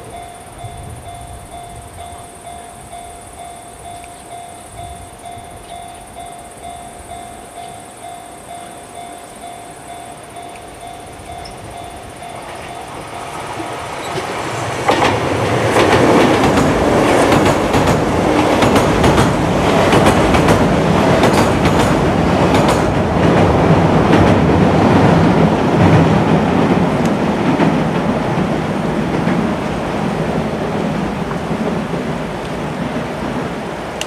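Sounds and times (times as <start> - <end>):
train wheels clacking on rails: 0.0 - 34.0.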